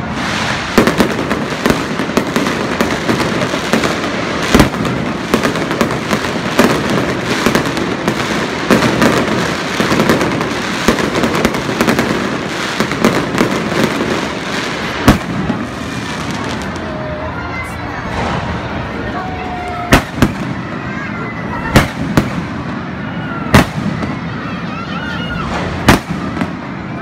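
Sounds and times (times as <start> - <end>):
loud firework bangs: 0.0 - 17.2, 17.9 - 19.2, 19.8 - 27.0
fireworks crackling: 0.0 - 27.0.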